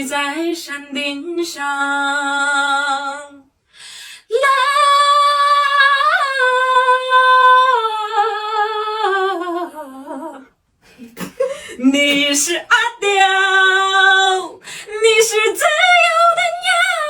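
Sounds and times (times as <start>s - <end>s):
woman singing unaccompanied: 0.0s - 3.5s, 4.2s - 10.5s, 11.6s - 17.0s.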